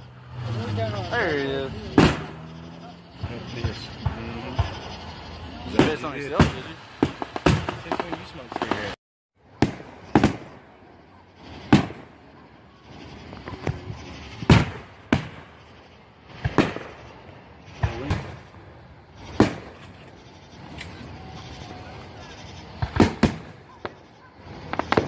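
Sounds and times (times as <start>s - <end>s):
fireworks bangs: 0.2s - 25.0s.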